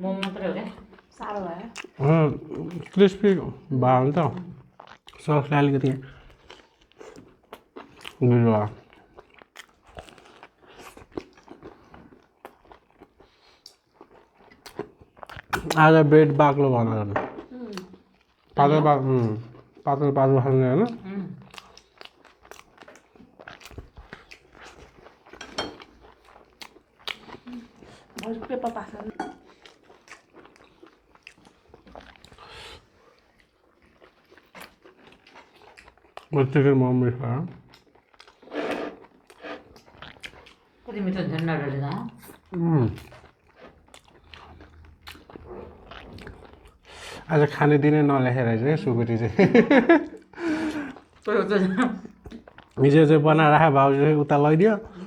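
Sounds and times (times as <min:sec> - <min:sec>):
person chewing crispy food: 0:00.2 - 0:15.9, 0:17.4 - 0:19.9, 0:20.7 - 0:47.6, 0:49.6 - 0:51.3, 0:52.1 - 0:53.0.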